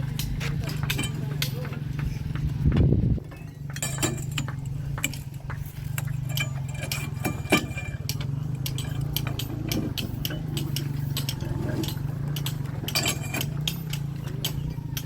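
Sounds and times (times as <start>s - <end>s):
metallic clinks of steel bars: 0.1s - 1.8s, 3.3s - 15.0s.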